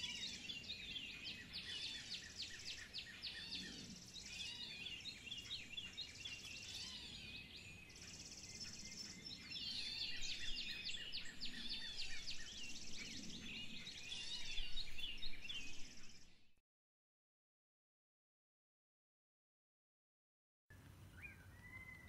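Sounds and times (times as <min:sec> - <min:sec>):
small birds chirping: 0:00.0 - 0:16.6, 0:20.7 - 0:22.0.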